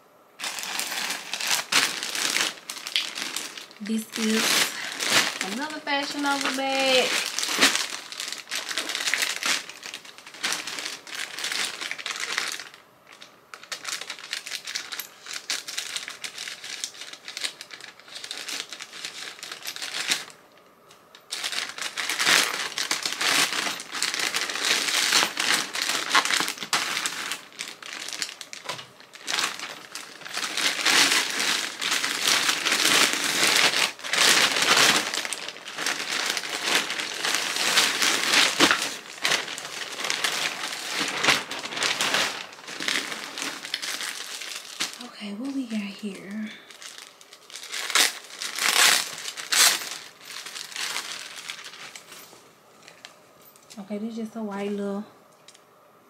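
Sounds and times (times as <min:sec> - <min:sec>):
plastic mailer bag crinkling: 0:00.4 - 0:20.6, 0:21.2 - 0:53.1.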